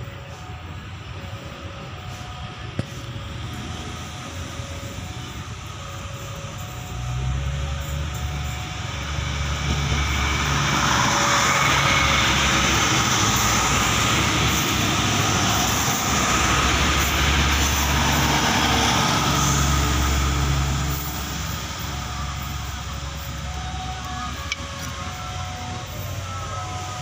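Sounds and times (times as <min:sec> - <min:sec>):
diesel engine drone: 0:00.0 - 0:27.0
steel wheels rumbling on rails: 0:00.0 - 0:27.0.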